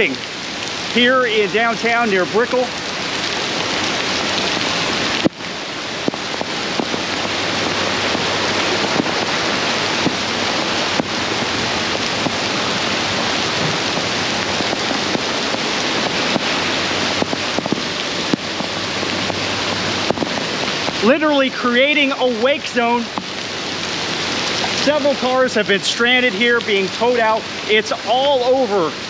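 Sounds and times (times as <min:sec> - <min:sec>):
heavy rain pouring: 0:00.0 - 0:29.0
sharp rain ticks: 0:00.0 - 0:29.0.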